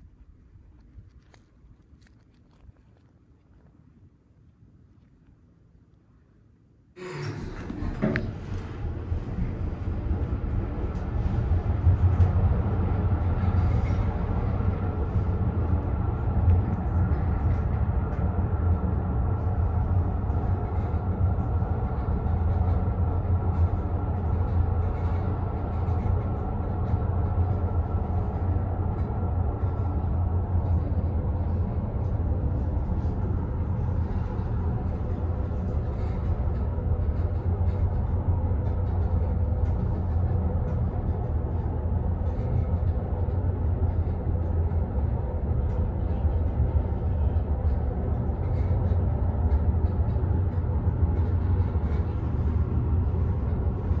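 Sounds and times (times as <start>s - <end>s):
lift hum and rumble: 0.0s - 54.0s.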